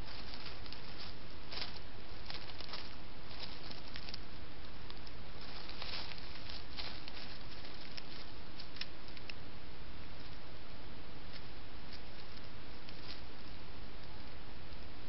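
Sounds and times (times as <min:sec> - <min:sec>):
animal rustling dry leaves: 0:00.0 - 0:10.5, 0:11.1 - 0:14.4
microphone hiss: 0:00.0 - 0:15.0.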